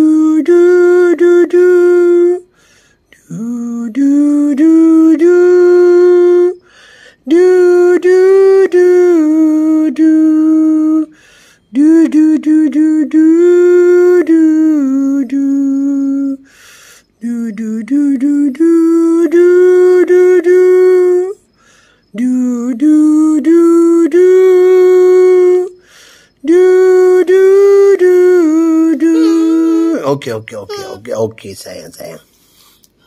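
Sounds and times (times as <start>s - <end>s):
person singing wordless lullaby: 0.0s - 32.2s.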